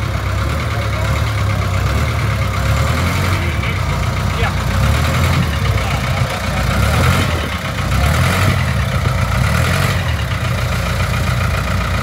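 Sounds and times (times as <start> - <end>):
engines running at low revs: 0.0 - 12.0.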